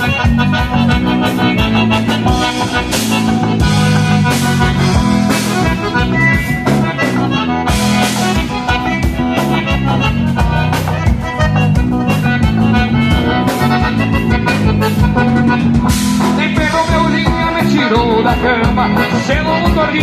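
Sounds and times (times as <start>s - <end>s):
accordion: 0.0s - 20.0s
dance band playing: 0.0s - 20.0s.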